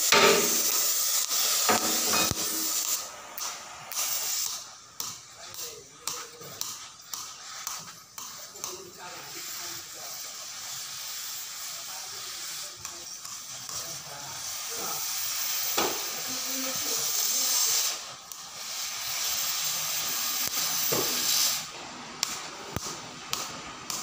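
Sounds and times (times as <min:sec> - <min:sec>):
cutting torch hissing: 0:00.0 - 0:24.0.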